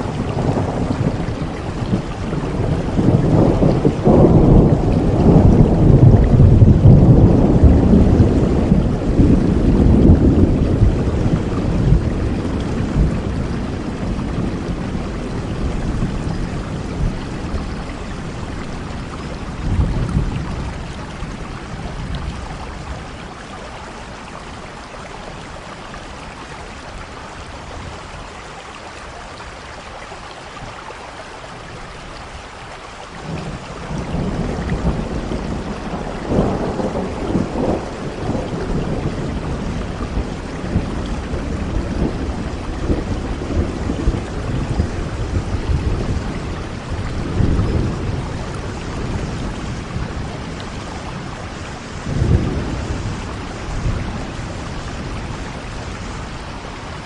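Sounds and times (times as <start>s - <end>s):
rolling thunder: 0.0s - 24.2s, 33.2s - 57.0s
heavy rain: 0.0s - 57.0s.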